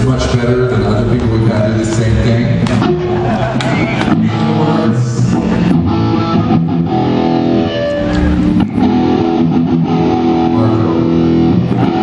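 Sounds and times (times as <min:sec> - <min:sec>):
bass guitar: 0:00.0 - 0:12.0
electric guitar chords: 0:00.0 - 0:12.0.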